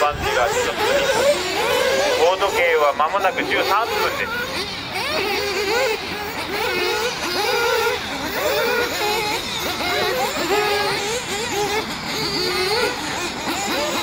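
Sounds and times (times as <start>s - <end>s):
model car engines revving: 0.0s - 14.0s.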